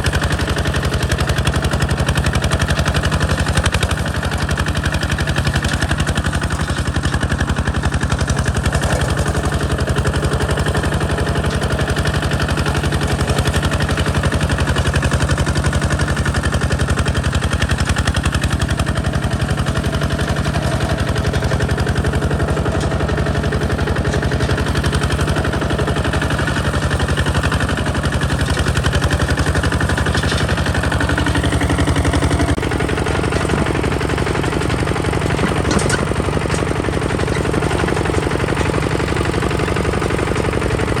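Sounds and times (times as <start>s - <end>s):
diesel tractor engine running: 0.0s - 41.0s.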